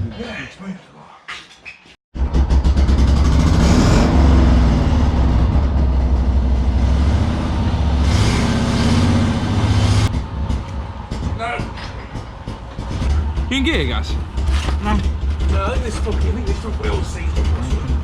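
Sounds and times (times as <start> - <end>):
vehicle engine revving: 2.2 - 18.0.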